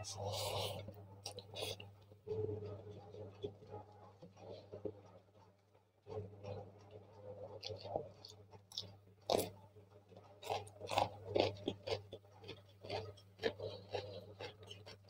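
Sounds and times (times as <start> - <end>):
chewing crunchy food: 0.0 - 15.0
faint low hum: 0.0 - 15.0.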